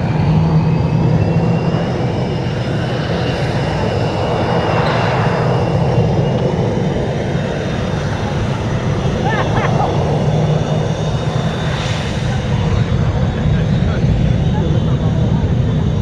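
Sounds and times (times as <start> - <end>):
jet engines running with whine: 0.0 - 16.0.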